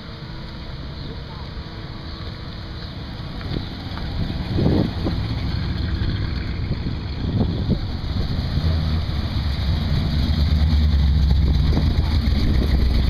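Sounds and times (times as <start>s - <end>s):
car engines rumbling past: 0.0s - 13.0s.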